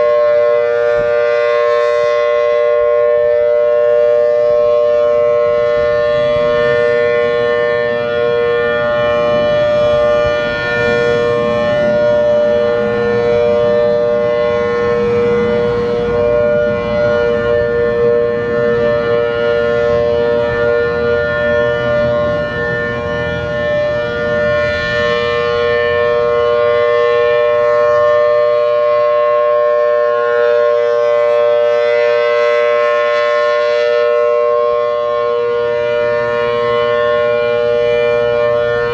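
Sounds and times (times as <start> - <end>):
outdoor warning siren chord: 0.0 - 38.9.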